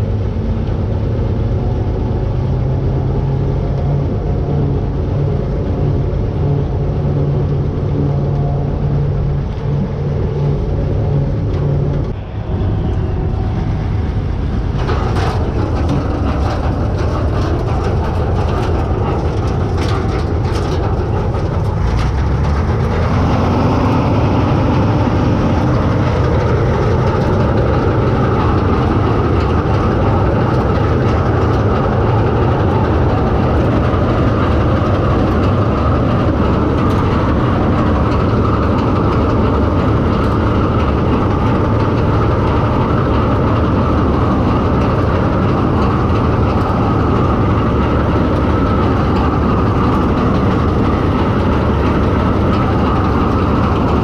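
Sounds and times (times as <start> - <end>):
combine harvester engine drone: 0.0 - 54.0
machinery rattles: 0.0 - 54.0.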